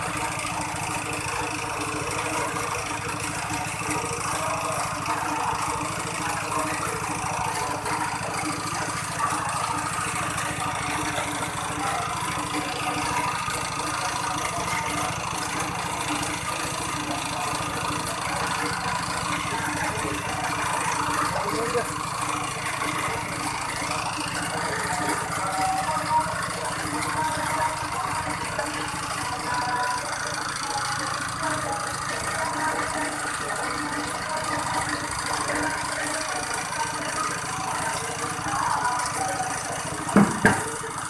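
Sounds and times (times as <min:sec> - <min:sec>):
small petrol engine running: 0:00.0 - 0:41.0.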